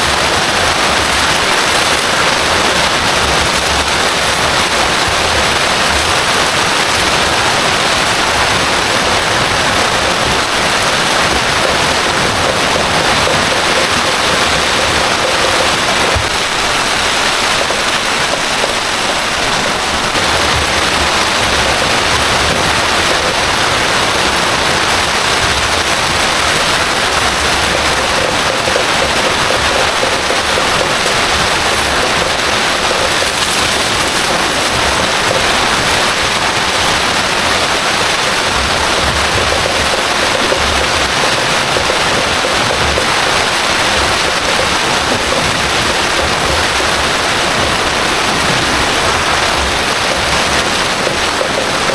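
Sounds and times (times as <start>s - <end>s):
floodwater rushing: 0.0s - 51.9s
heavy rain: 0.0s - 51.9s.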